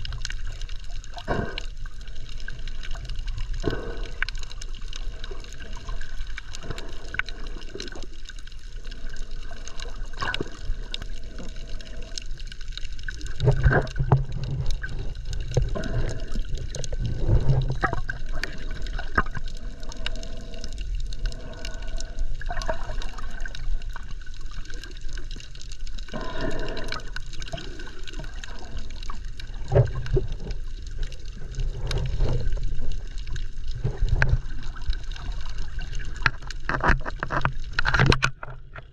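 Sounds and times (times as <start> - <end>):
underwater water sloshing: 0.0 - 38.9.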